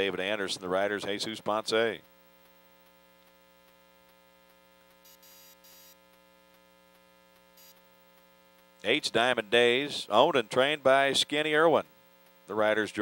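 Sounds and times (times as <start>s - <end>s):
faint mains hum: 0.0s - 13.0s.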